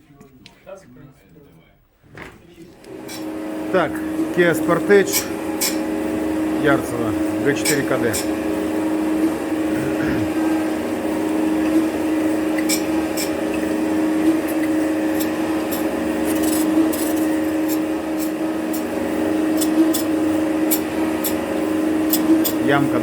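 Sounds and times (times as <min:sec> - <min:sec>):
machine hum: 0:02.7 - 0:23.0.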